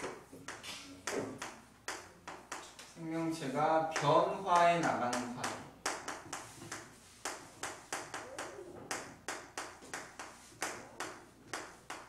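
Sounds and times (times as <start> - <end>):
chalk tapping on blackboard: 0.0 - 3.0, 3.9 - 12.0.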